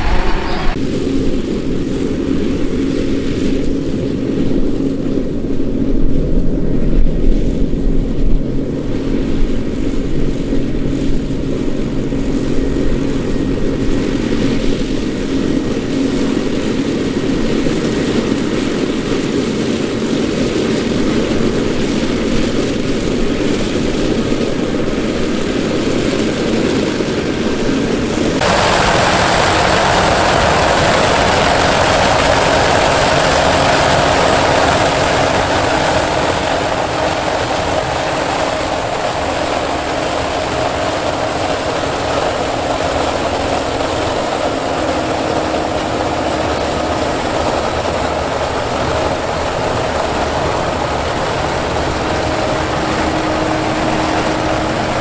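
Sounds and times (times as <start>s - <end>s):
harvester engine drone: 0.0s - 55.0s.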